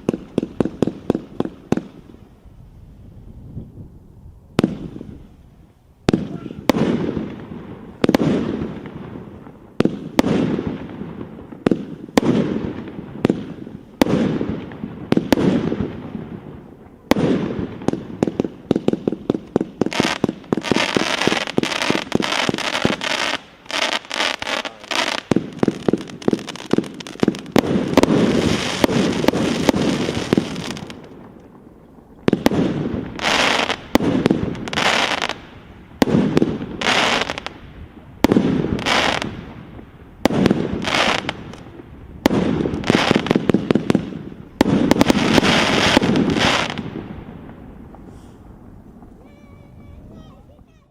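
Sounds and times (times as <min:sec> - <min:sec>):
firework shots and bursts: 0:00.0 - 0:02.2, 0:04.6 - 0:05.2, 0:06.0 - 0:48.3
firework crackling: 0:00.0 - 0:50.9.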